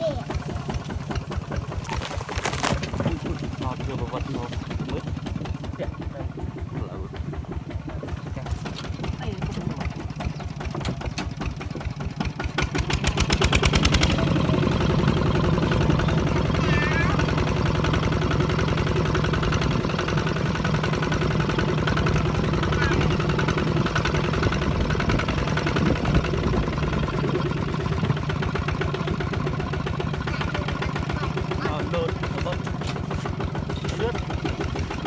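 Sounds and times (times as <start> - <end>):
small engine revving: 0.0 - 35.0.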